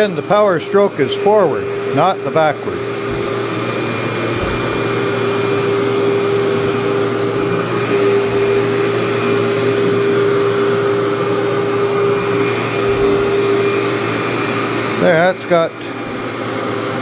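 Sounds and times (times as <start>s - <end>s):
vacuum cleaner running on carpet: 0.0s - 17.0s.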